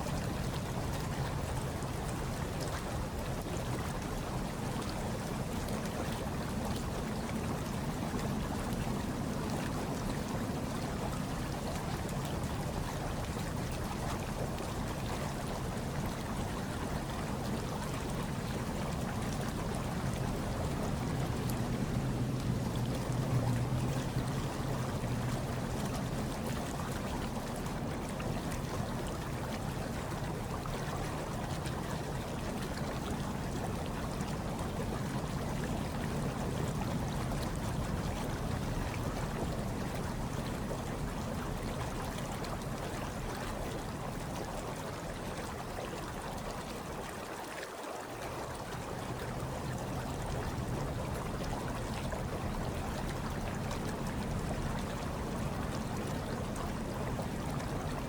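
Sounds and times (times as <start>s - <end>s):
hot tub water bubbling: 0.0s - 58.0s.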